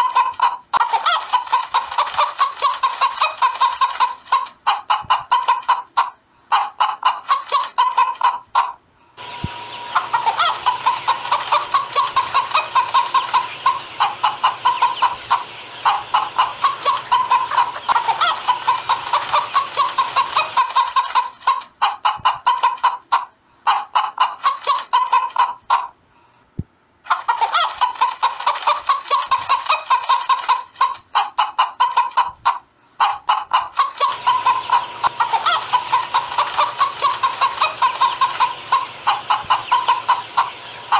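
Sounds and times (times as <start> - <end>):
hens clucking and cackling: 0.0 - 26.0, 27.1 - 40.9.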